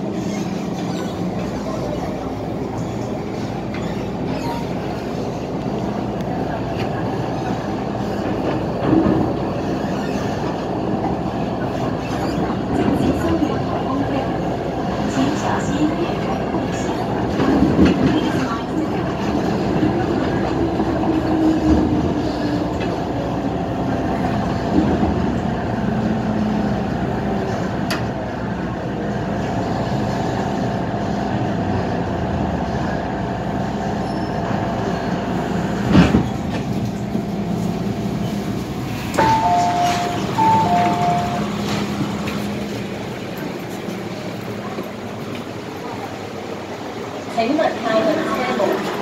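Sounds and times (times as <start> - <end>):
train running rumble: 0.0 - 49.0.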